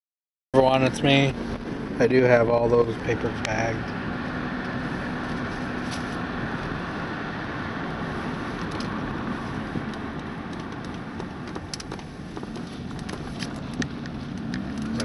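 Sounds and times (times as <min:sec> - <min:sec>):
car road and engine noise: 0:00.6 - 0:15.0.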